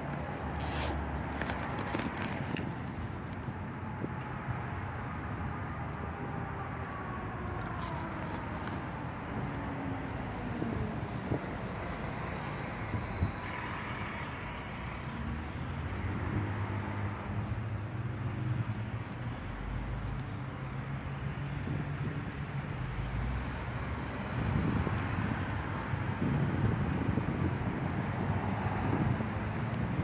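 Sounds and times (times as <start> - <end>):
road noise: 0.0 - 30.0
vehicles passing: 0.0 - 30.0.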